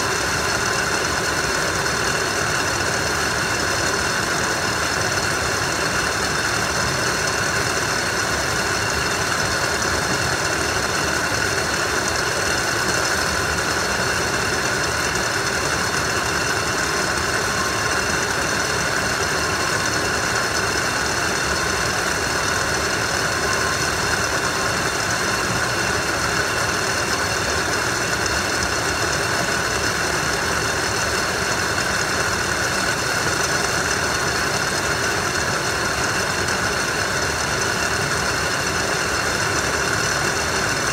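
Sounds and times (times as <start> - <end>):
conveyor mechanical drone: 0.0 - 40.9.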